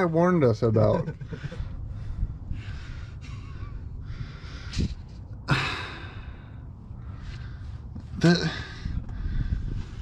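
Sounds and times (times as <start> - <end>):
man breathing heavily and sighing: 1.2 - 10.0.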